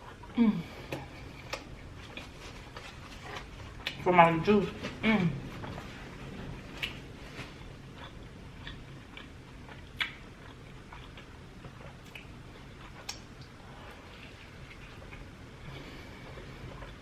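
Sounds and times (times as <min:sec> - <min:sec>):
wet chewing and mouth clicks: 0:00.0 - 0:04.0, 0:06.6 - 0:15.5, 0:16.2 - 0:17.0.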